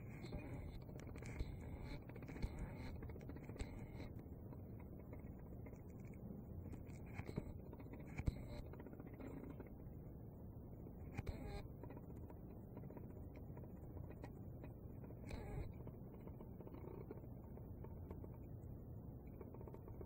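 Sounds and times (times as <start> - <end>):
faint low background noise: 0.0 - 20.0.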